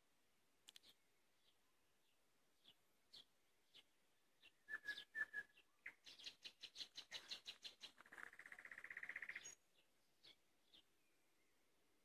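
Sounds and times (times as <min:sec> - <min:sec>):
nightingale singing: 0:00.7 - 0:11.6.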